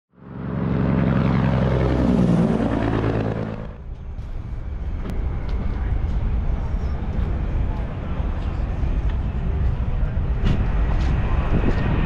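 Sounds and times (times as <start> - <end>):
loud engine passing by: 0.1 - 12.0
steady low rumble: 0.2 - 12.0.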